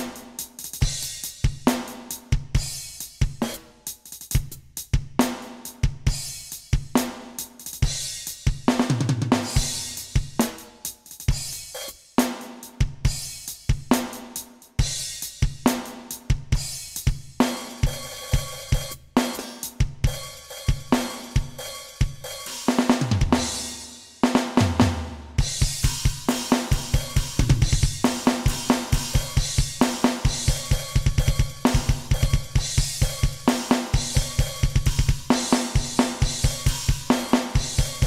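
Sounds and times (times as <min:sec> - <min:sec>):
electronic drum kit groove: 0:00.0 - 0:38.0.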